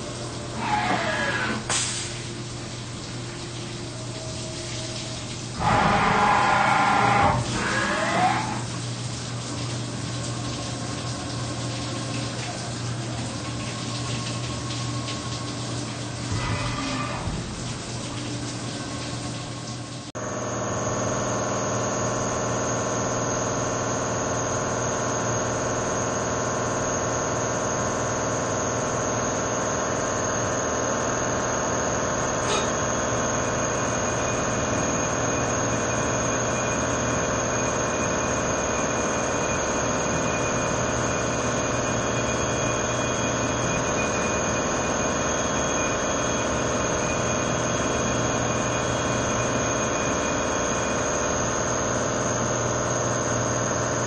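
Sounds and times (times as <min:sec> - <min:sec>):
milling machine whine: 0:00.0 - 0:54.0.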